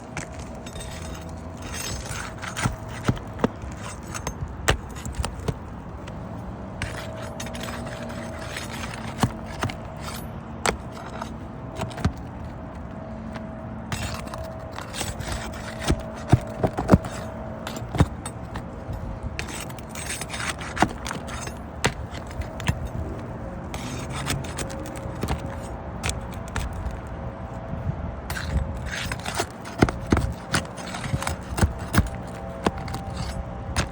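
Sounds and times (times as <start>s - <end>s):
hard objects clicking and scraping: 0.0s - 27.6s, 28.2s - 33.9s.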